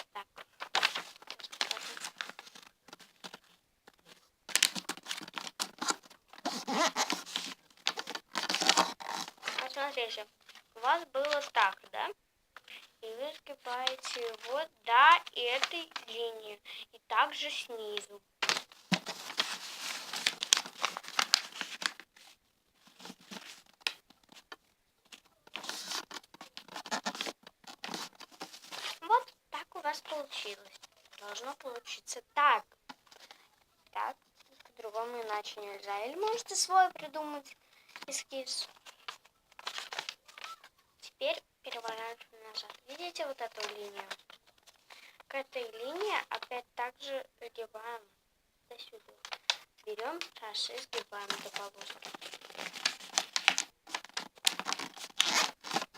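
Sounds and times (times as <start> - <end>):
paper rustling and crinkling: 0.3 - 12.0, 12.6 - 16.2, 18.0 - 29.3, 29.9 - 32.0, 32.8 - 36.7, 37.8 - 40.8, 41.7 - 45.2, 49.0 - 55.9.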